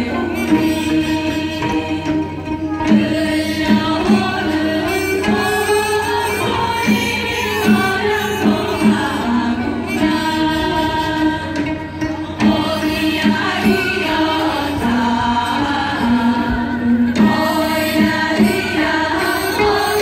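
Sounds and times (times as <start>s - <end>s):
group of voices singing: 2.9s - 20.0s.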